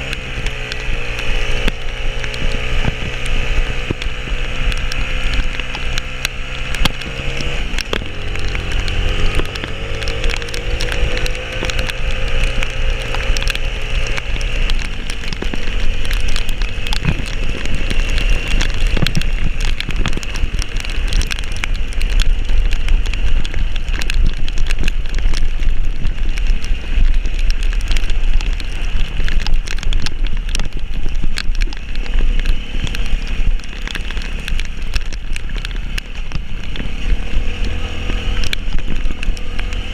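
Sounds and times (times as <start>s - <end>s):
sharp ticks and knocks: 0.0s - 39.9s
vehicle engine under load: 0.0s - 39.9s
wind noise rumble: 0.0s - 39.9s.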